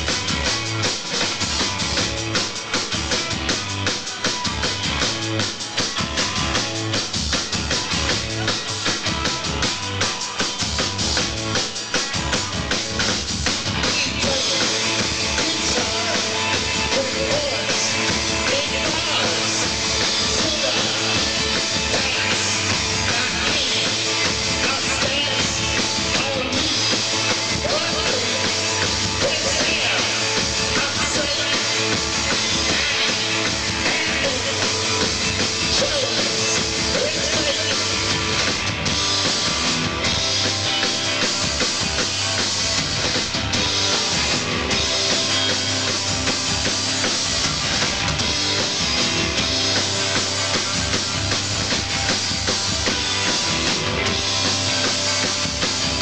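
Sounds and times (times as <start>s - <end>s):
drum kit beat: 0.0s - 56.0s
rock band playing live: 0.0s - 56.0s.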